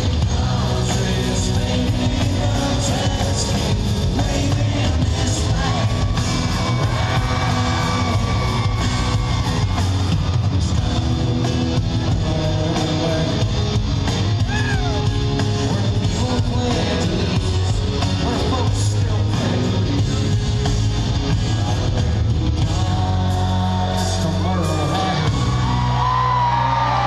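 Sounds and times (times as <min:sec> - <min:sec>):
live country-rock band: 0:00.0 - 0:27.0.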